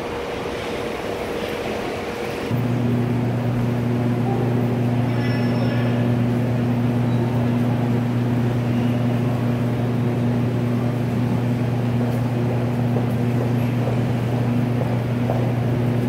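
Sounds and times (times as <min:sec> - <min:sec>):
low machine drone: 0:00.0 - 0:16.0.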